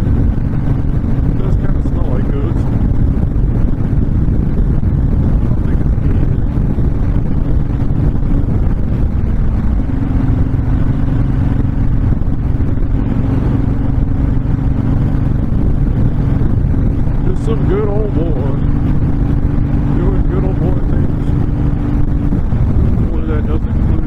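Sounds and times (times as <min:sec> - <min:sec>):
motorcycle engine cruising: 0:00.0 - 0:24.0
wind rush on microphone: 0:00.0 - 0:24.0.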